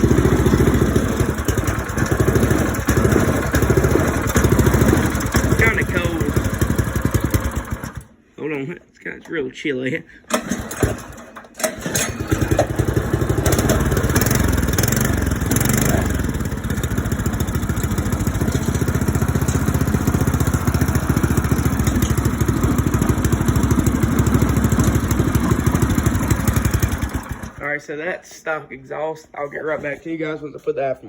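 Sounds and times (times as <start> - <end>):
small engine pull-started and running: 0.0 - 8.2, 10.2 - 27.7.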